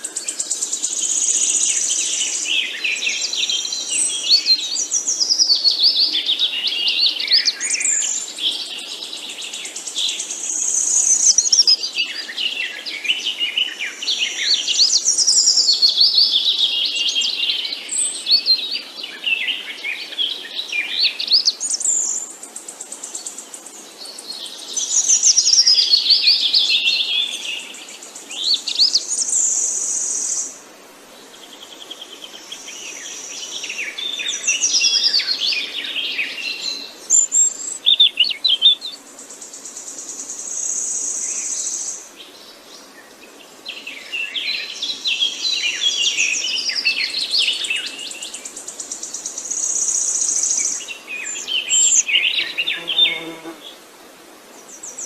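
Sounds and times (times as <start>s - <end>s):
songbirds chirping and singing: 0.0s - 30.6s, 31.2s - 53.8s.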